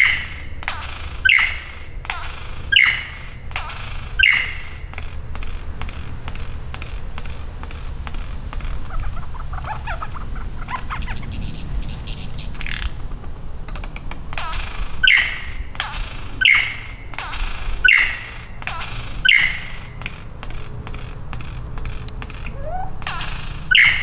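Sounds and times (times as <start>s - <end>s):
lyrebird singing: 0.0s - 24.0s.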